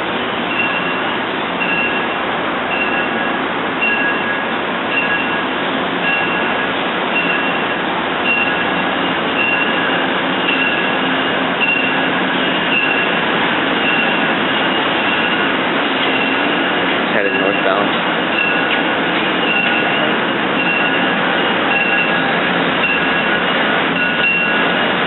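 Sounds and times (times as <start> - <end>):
train rail and wheel noise: 0.0 - 25.0.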